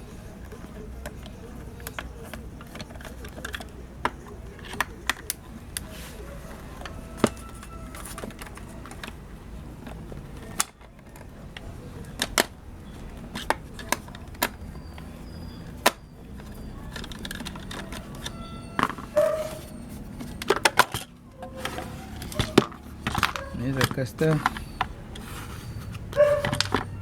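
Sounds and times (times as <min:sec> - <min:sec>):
clicks of tools and plastic parts: 0:00.2 - 0:27.0.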